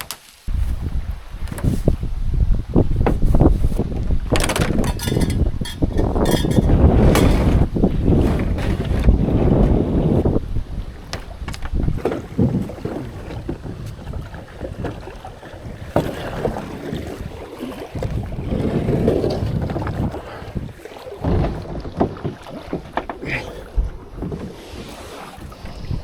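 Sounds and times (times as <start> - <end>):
wind buffeting microphone: 0.5 - 26.0
kayak paddle splashing in water: 3.1 - 26.0.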